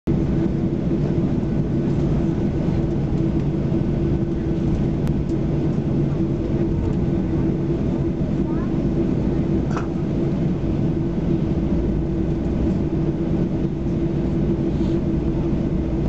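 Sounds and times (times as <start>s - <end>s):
jet engines rumbling in cabin: 0.1s - 16.0s.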